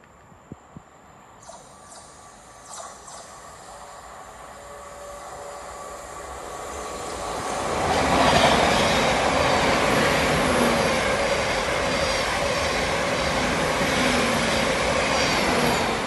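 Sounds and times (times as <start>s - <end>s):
passenger train passing at speed: 0.0s - 16.0s.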